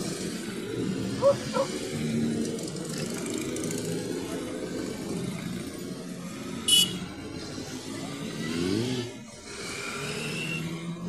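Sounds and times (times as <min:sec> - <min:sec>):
motorcycle engine revving: 0:00.0 - 0:11.0
motorcycles riding past: 0:00.0 - 0:11.0.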